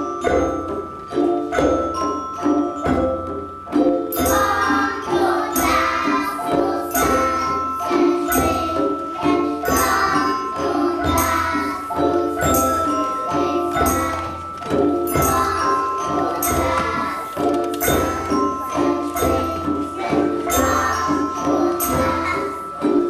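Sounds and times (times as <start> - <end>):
xylophones playing: 0.0 - 23.0
children singing: 4.1 - 23.0.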